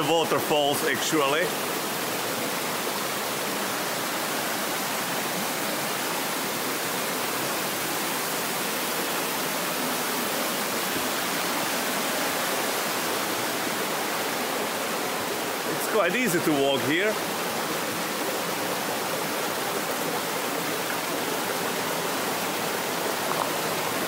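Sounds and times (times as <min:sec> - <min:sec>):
waterfall and stream rushing: 0:00.0 - 0:24.0.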